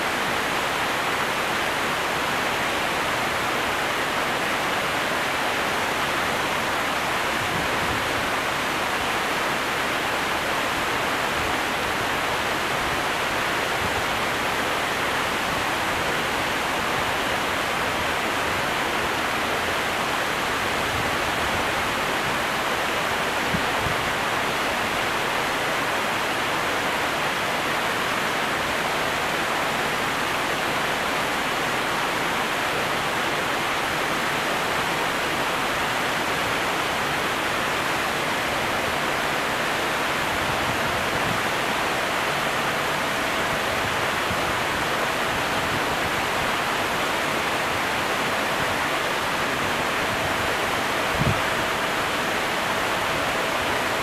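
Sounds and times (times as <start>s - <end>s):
water rushing through canal lock: 0.0s - 54.0s.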